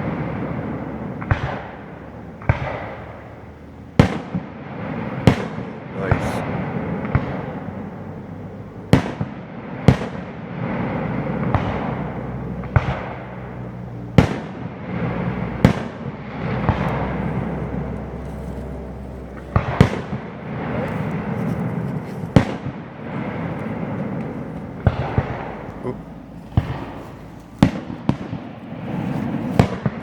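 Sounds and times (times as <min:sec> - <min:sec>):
crackle and rumble of fireworks: 0:00.0 - 0:30.0
firework shell bursts echoing: 0:00.0 - 0:30.0.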